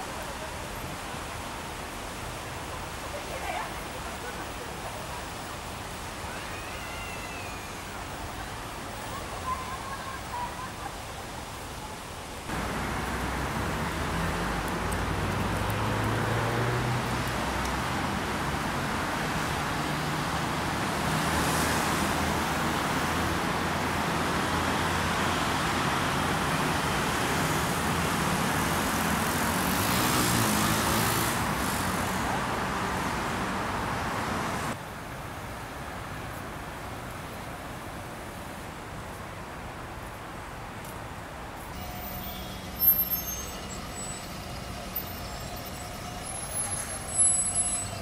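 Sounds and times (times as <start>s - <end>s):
road traffic: 0.0s - 48.0s
vehicles passing by: 7.7s - 48.0s.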